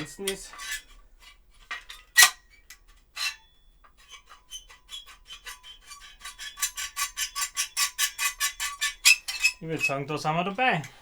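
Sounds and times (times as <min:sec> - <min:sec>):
metallic rubbing squeaks: 0:00.0 - 0:01.0, 0:01.6 - 0:11.0
metal scrape: 0:00.0 - 0:11.0.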